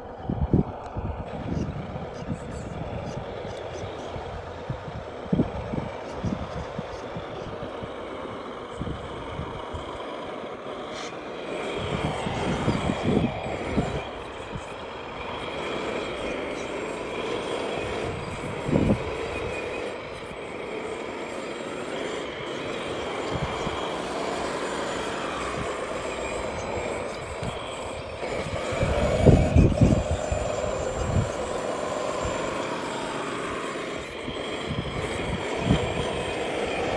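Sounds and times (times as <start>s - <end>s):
model vehicle engine drone: 0.0s - 36.9s.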